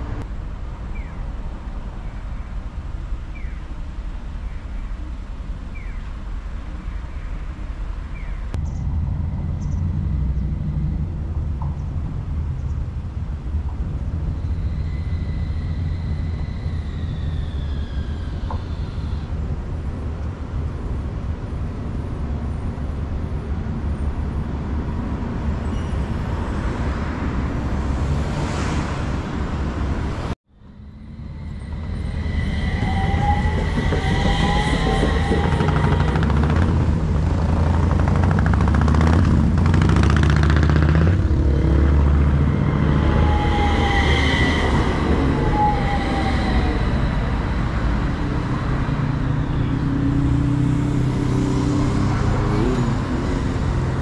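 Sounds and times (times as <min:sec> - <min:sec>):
tram wheels rumbling on track: 0:00.0 - 0:54.0.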